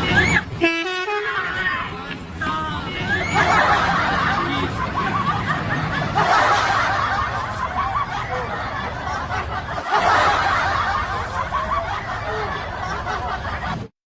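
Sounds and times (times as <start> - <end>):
people laughing: 0.0 - 0.6, 1.4 - 13.9.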